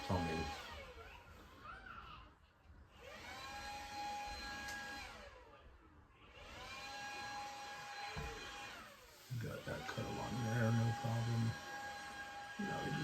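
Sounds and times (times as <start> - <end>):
power tool cutting drywall: 0.0 - 1.2, 2.9 - 5.5, 6.3 - 13.0.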